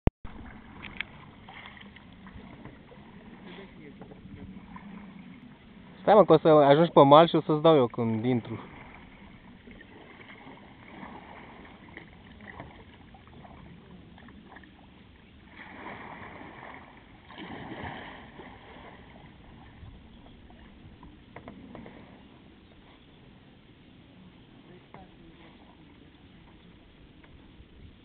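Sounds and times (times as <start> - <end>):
paddles swishing through water: 0.3 - 28.0.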